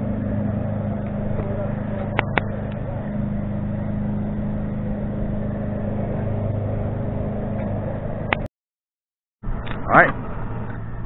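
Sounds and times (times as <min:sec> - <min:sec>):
propane burner roaring: 0:00.0 - 0:08.5, 0:09.5 - 0:11.0.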